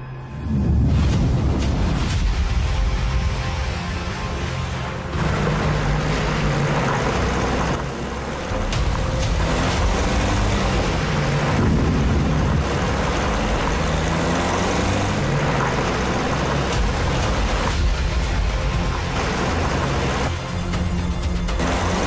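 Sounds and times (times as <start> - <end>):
truck engines running: 0.0 - 22.0.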